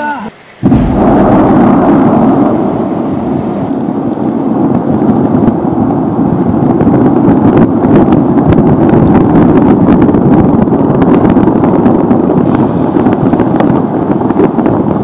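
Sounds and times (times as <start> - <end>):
volcano eruption roar: 0.0 - 15.0.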